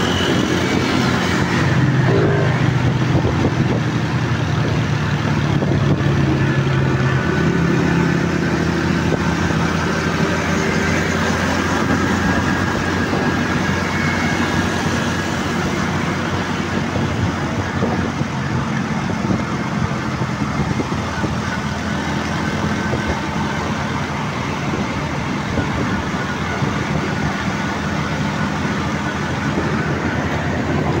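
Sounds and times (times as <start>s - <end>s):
traffic passing: 0.0s - 31.0s
vehicle road and engine noise: 0.0s - 31.0s.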